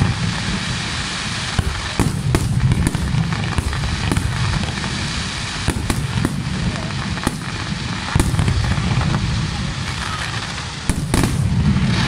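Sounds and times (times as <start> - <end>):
fireworks bangs: 0.0 - 12.0
fireworks rumble and crackle: 0.0 - 12.0.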